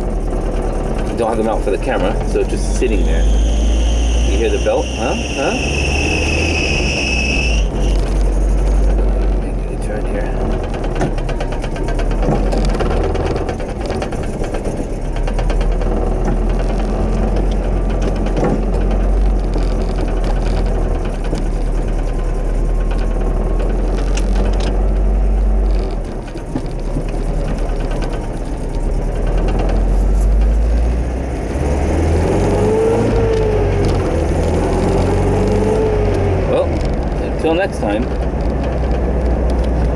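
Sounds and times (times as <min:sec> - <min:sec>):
truck engine rumbling: 0:00.0 - 0:39.9.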